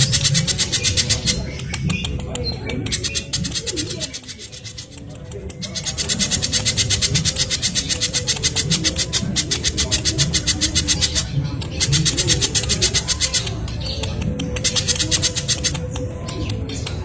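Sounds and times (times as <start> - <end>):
bird chattering trill: 0.0 - 17.0.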